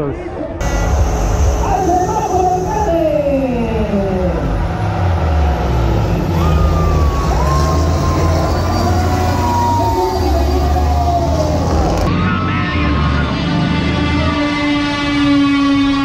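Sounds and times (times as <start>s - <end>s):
air horn tones: 0.6s - 12.1s, 13.9s - 16.0s
diesel trucks at full throttle: 0.6s - 16.0s.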